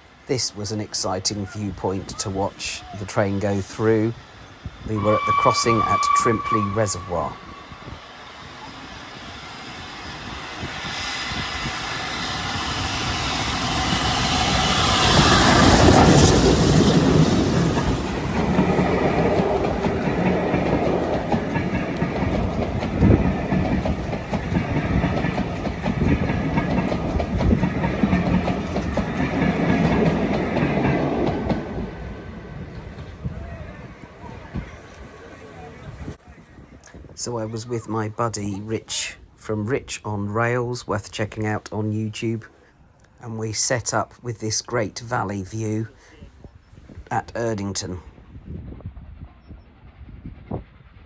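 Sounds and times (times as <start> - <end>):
steam locomotive passing: 0.0 - 51.0
coaches rolling on rails: 0.1 - 42.4.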